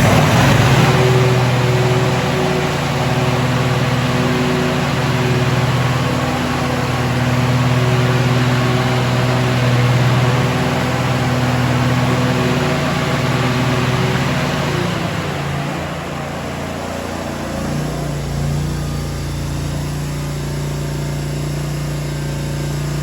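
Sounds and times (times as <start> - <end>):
mower engine running: 0.0 - 23.0.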